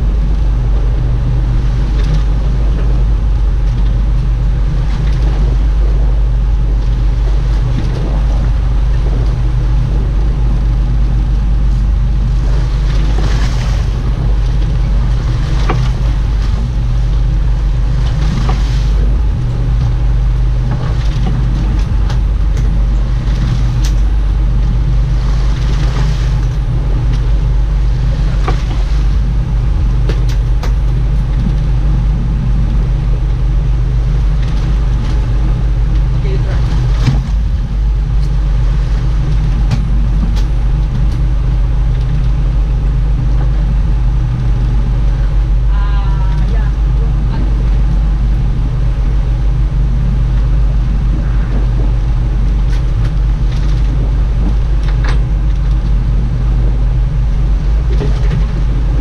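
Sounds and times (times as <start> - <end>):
boat engine humming: 0.0 - 59.0
water washing: 0.0 - 59.0
wind noise: 0.0 - 59.0.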